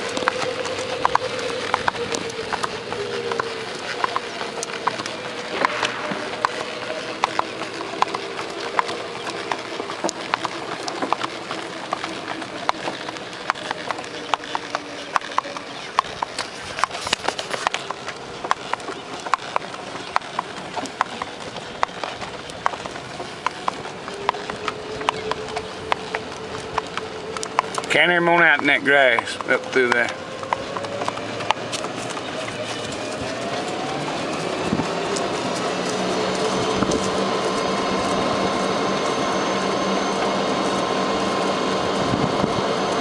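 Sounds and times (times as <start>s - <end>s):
horse hooves clip-clopping on asphalt: 0.0s - 43.0s.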